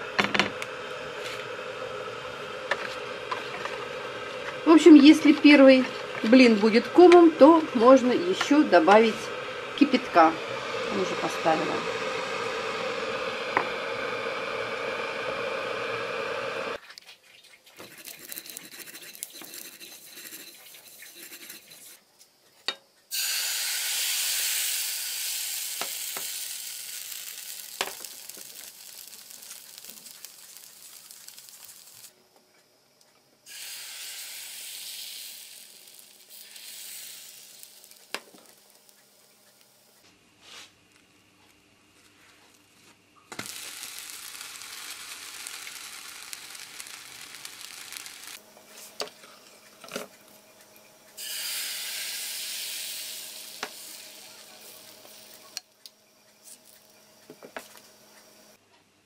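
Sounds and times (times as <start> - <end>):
batter sizzling in frying pan: 0.0 - 16.8, 23.1 - 32.1, 33.4 - 40.6, 43.3 - 50.4, 51.1 - 58.6
electric kettle hiss and hum: 0.0 - 16.8, 17.8 - 58.6.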